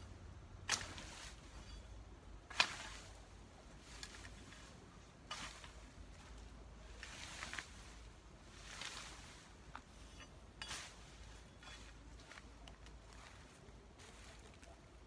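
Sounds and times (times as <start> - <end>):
weeds rustling as raked: 0.0 - 15.0.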